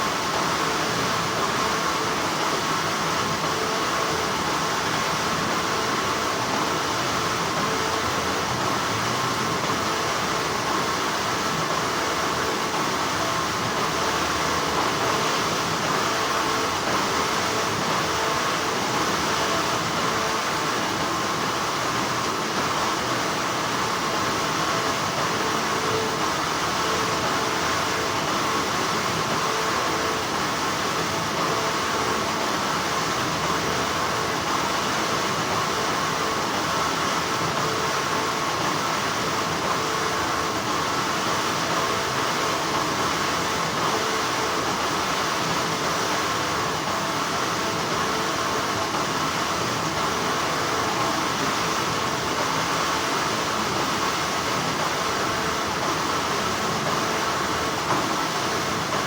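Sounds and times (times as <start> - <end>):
textile factory machinery humming: 0.0 - 59.0.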